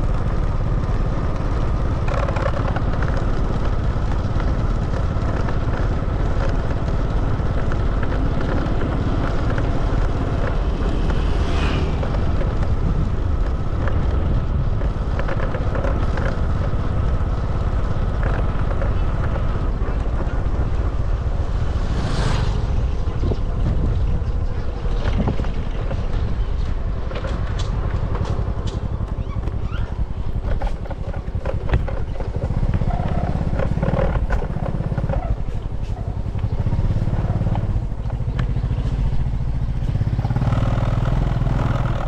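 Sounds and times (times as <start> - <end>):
motorbike engine running: 0.0 - 42.0
wind rumble on microphone: 0.0 - 42.0.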